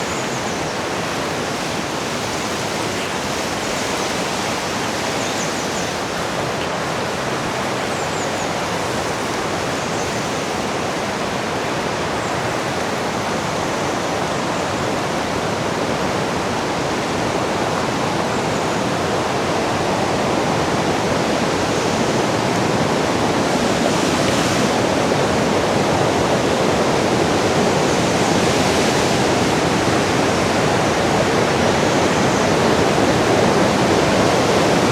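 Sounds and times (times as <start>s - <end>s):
rushing river water: 0.0s - 34.9s.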